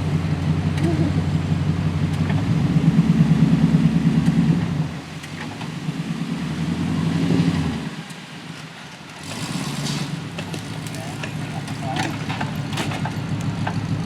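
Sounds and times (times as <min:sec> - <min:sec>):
truck engine working at low speed: 0:00.0 - 0:14.0.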